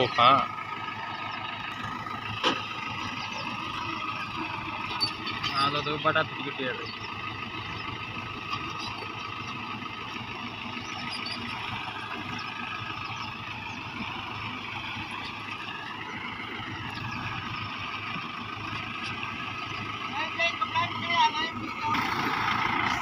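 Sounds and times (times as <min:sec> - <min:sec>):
tractor diesel engines running: 0:00.0 - 0:23.0.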